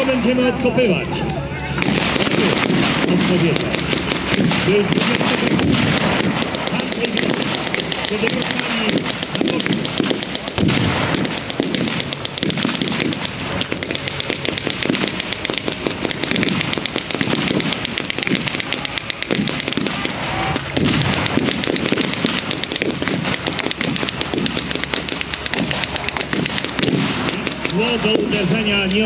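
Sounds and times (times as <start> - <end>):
crackle of blank gunfire: 1.8 - 28.4.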